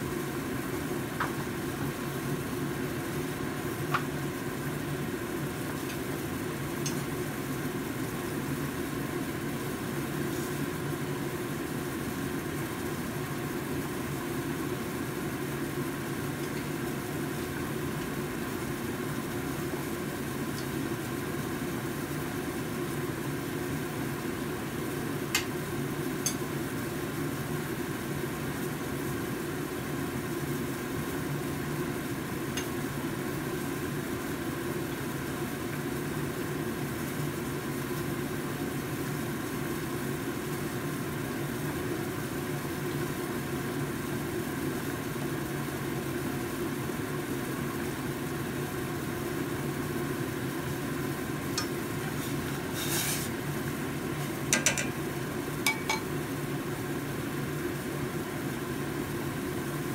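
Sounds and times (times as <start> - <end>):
gas burner flame: 0.0 - 59.9
soup boiling in a pot: 0.0 - 59.9.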